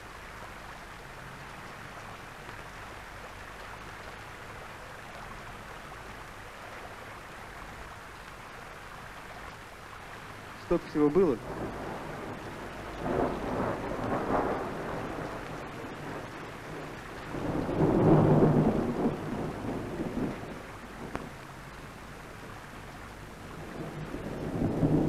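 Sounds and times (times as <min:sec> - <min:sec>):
low rumbling outdoor noise: 0:00.0 - 0:25.0.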